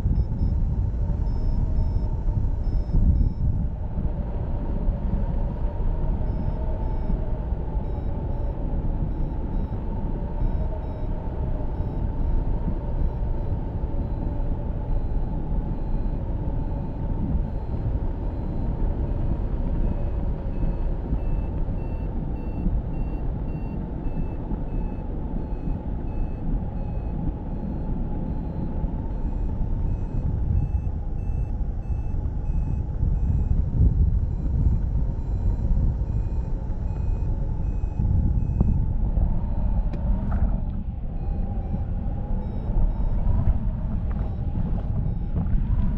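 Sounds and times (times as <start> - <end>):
variometer beeping: 0.0 - 4.3, 5.3 - 45.9
steady whine: 0.0 - 45.9
wind rushing over microphone: 0.0 - 45.9.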